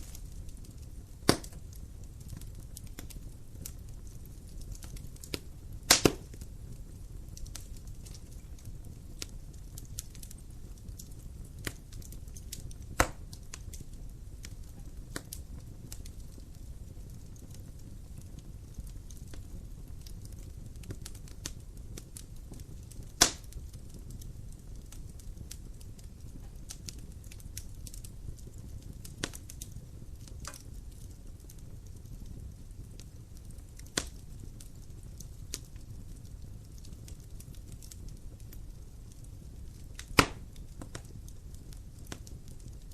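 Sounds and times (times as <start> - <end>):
low rumble of flame: 0.0 - 42.9
wood fire crackling: 0.0 - 42.9.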